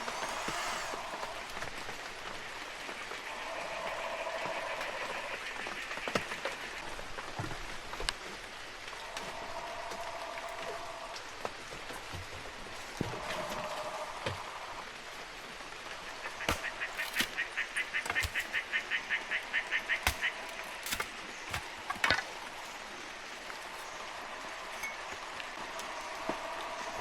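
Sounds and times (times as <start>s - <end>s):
heavy rain on foliage and tarp: 0.0s - 27.0s.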